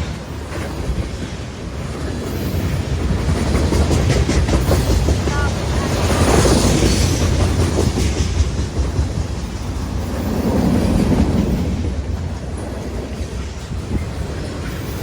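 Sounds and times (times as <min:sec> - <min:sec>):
train rumbling past: 0:00.0 - 0:15.0
wheels clacking over rail joints: 0:00.0 - 0:15.0.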